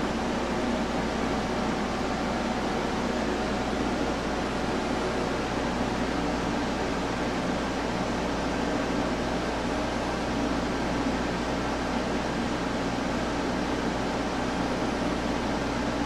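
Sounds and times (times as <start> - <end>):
fan hiss and hum: 0.0 - 16.0.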